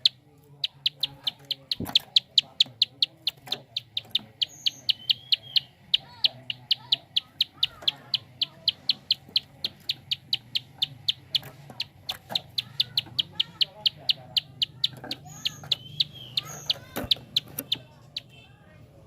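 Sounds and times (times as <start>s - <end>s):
bird rapid ticking call: 0.0s - 18.4s
faint bird chirps: 0.0s - 18.6s.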